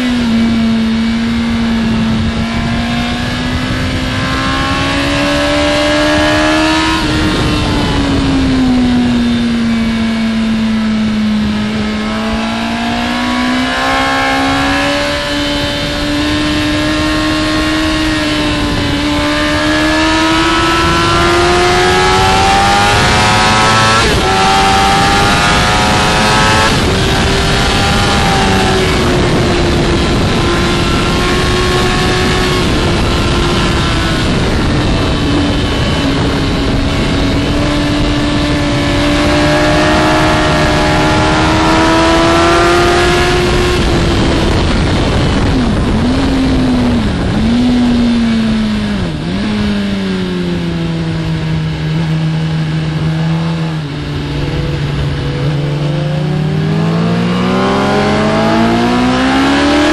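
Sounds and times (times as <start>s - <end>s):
heavy wind rush: 0.0s - 59.9s
motorcycle engine at high revs: 0.0s - 59.9s.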